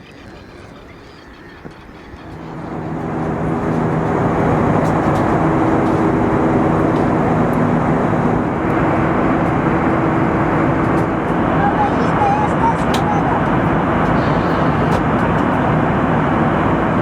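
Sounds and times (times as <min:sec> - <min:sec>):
vehicle engine hum: 0:00.0 - 0:17.0
loud rumble: 0:02.2 - 0:17.0.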